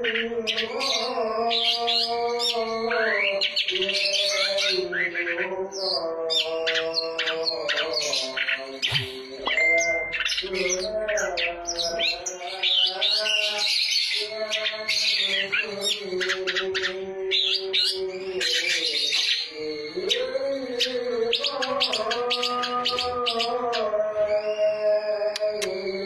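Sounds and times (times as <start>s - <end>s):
bird singing high chirps: 0.0s - 26.0s.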